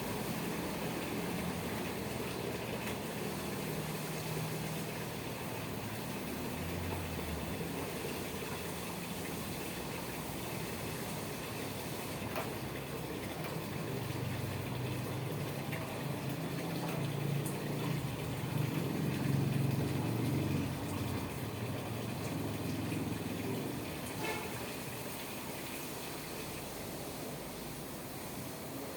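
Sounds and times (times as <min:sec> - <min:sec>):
liquid spraying and splashing: 0:00.0 - 0:28.9.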